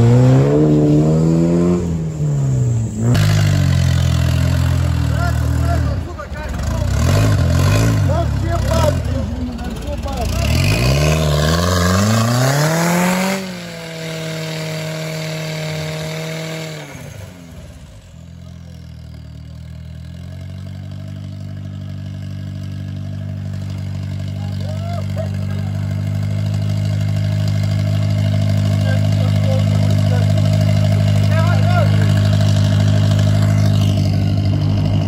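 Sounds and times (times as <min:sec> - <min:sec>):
vehicle engine revving: 0:00.0 - 0:35.0.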